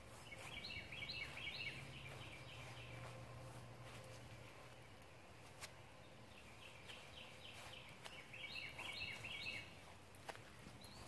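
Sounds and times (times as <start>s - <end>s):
songbird singing faintly: 0.0s - 11.0s.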